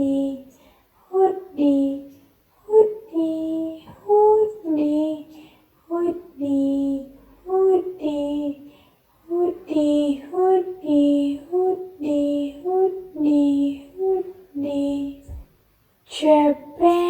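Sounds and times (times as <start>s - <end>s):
high voice singing: 0.0s - 8.7s, 9.3s - 15.4s, 16.1s - 17.0s.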